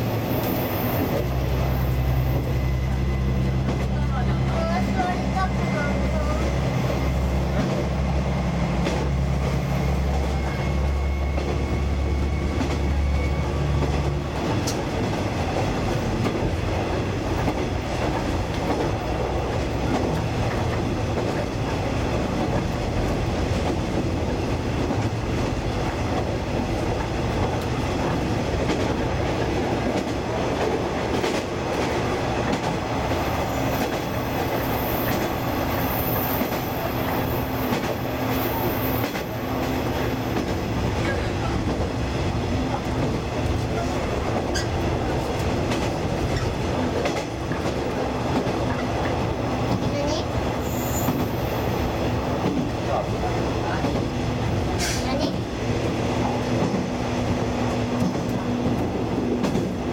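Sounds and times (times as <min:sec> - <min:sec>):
diesel railcar engine running: 0:00.0 - 0:59.9.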